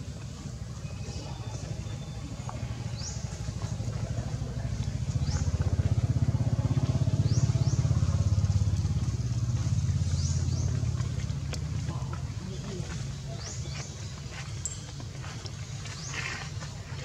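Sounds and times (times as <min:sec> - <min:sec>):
engine pulsing rumble: 0:00.0 - 0:17.0.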